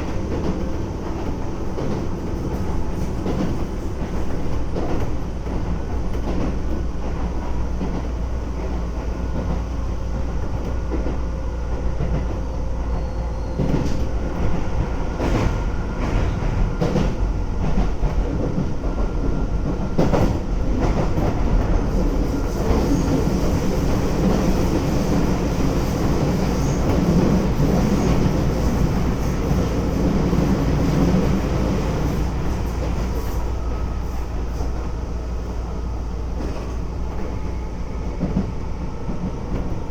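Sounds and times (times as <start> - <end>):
wheels rumbling on rails: 0.0 - 39.9.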